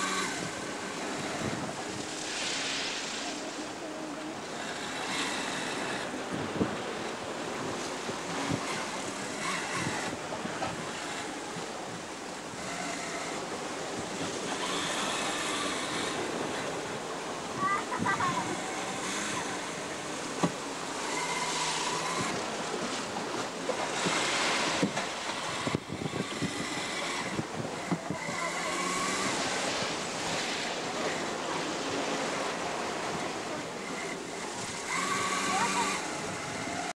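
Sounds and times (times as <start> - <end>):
rough sea rushing and breaking: 0.0 - 36.9
wind buffeting microphone: 0.0 - 36.9.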